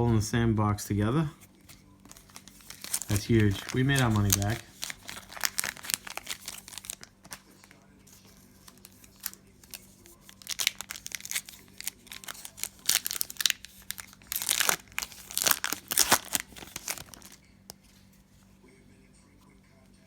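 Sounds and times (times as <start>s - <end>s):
plastic wrapper crinkling: 1.5s - 17.8s.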